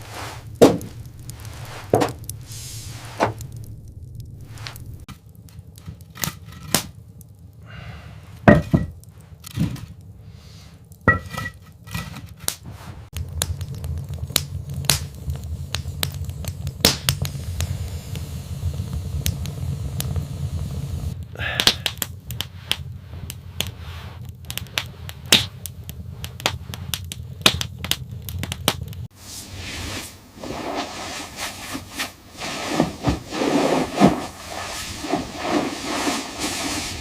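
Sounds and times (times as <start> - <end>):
low steady rumble: 0.0 - 12.1, 12.7 - 21.4, 22.0 - 37.0.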